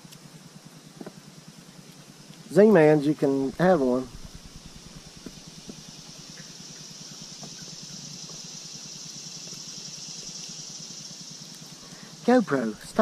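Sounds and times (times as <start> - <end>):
faint high outdoor hiss: 0.0 - 13.0.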